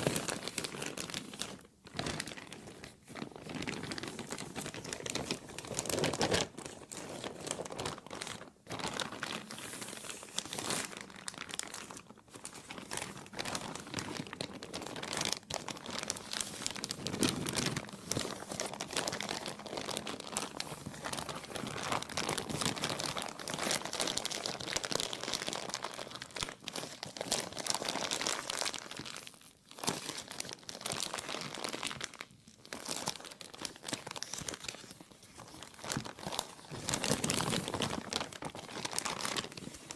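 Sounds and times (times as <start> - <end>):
plastic crinkling: 0.0 - 39.9.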